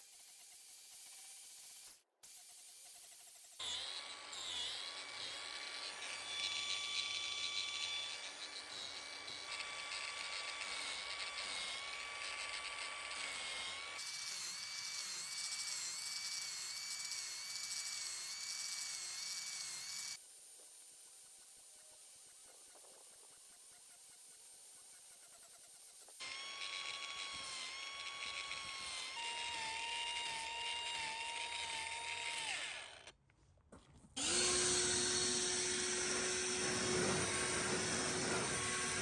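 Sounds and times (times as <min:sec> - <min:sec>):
power carving tool whining: 0:03.5 - 0:33.1, 0:34.2 - 0:39.0.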